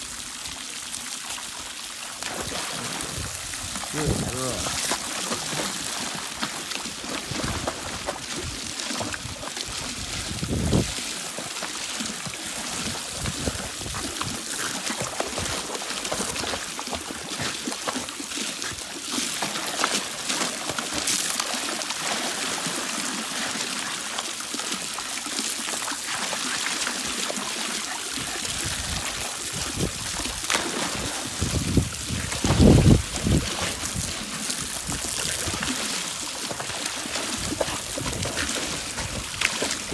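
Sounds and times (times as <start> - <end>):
hose spraying into pool water: 0.0 - 39.9.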